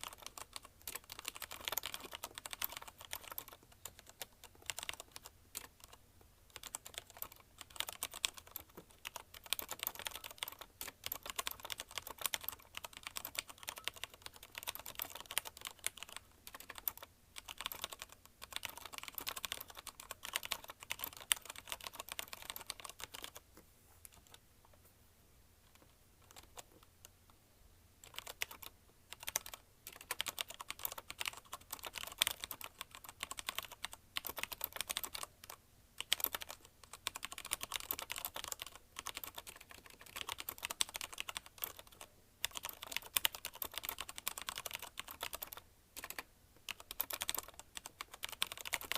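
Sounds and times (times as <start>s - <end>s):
fast typing on mechanical keyboard: 0.0s - 23.4s, 26.2s - 26.8s, 28.0s - 48.9s.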